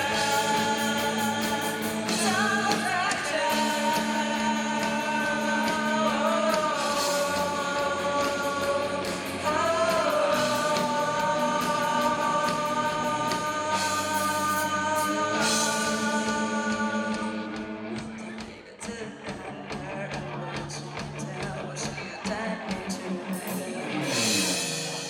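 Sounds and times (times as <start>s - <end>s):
band backing with cymbals: 0.0s - 25.0s
pop ballad singing: 0.0s - 25.0s.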